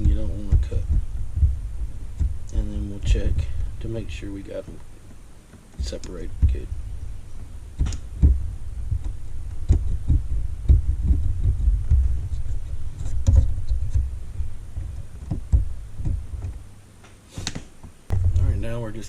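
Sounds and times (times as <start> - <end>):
soft knocks and bumps: 0.0 - 18.8
low rumbling handling noise: 0.0 - 19.0.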